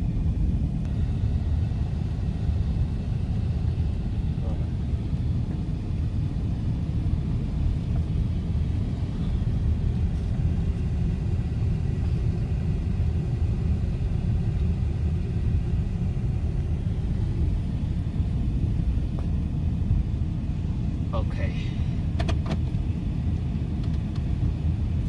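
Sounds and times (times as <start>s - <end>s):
car engine rumbling: 0.0s - 25.0s.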